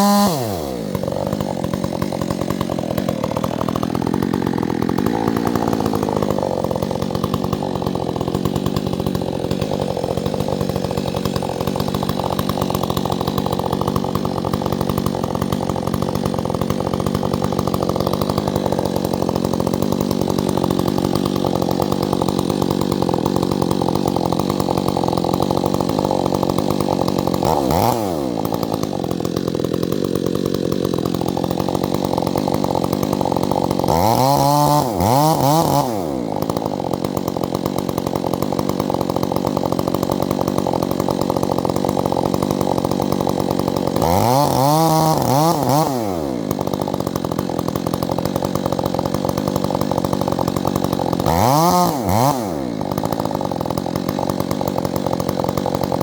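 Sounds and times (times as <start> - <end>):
chainsaw running at high revs: 0.0 - 56.0.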